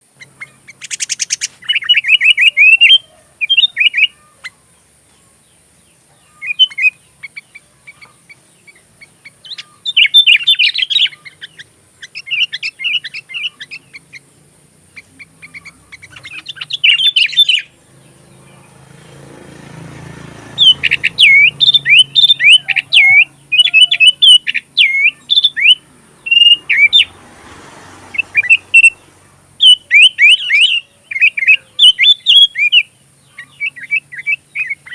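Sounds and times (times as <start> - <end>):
bulbul singing chirping phrases: 0.0 - 27.2, 28.0 - 34.9.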